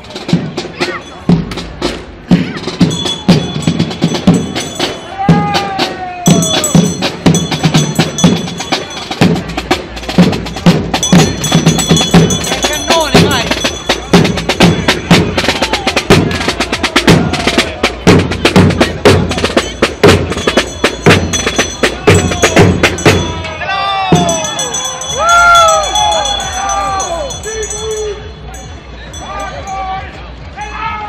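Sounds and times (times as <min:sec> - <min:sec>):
marching field drums: 0:00.0 - 0:31.0.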